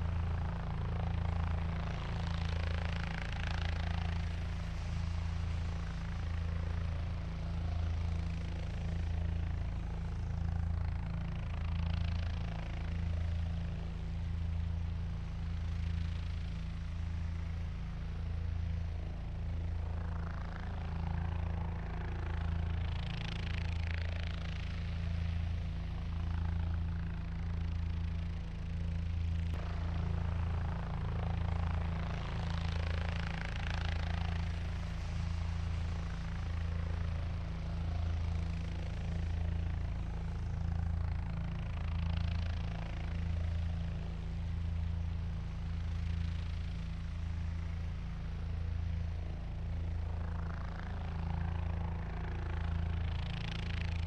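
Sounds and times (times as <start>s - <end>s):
helicopter rotor and engine hum: 0.0s - 54.0s.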